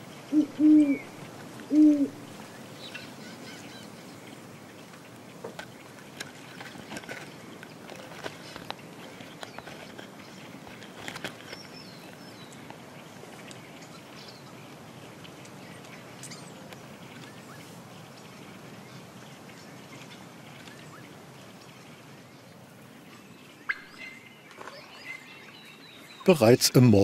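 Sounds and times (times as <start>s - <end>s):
faint bird calls: 0.0s - 26.3s
outdoor ambience hiss: 0.0s - 27.0s.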